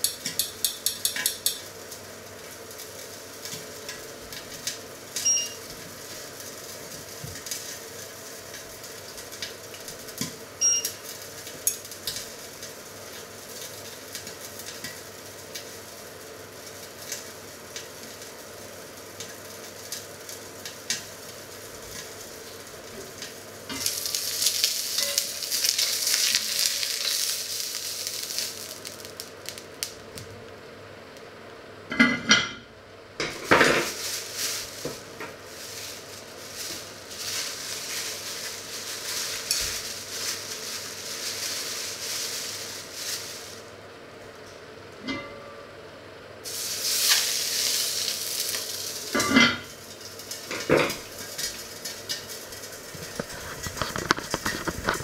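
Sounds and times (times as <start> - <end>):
hot oil sizzling and crackling: 0.0 - 55.0.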